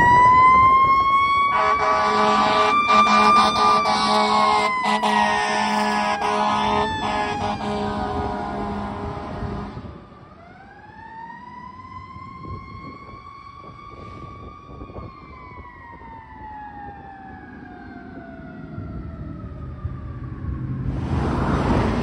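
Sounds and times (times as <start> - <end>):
fire engine siren wailing: 0.0 - 22.0
truck and road rumble: 0.0 - 22.0.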